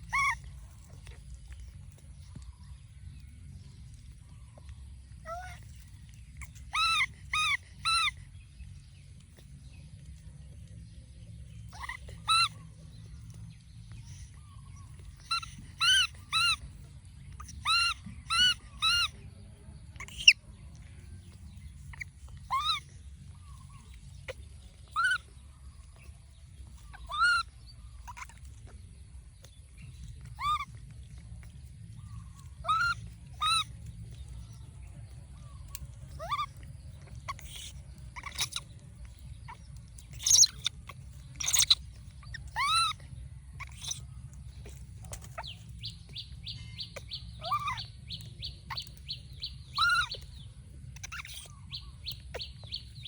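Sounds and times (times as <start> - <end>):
baby monkey crying: 0.0 - 1.6, 5.2 - 8.3, 11.7 - 19.3, 19.9 - 28.8, 29.4 - 53.0.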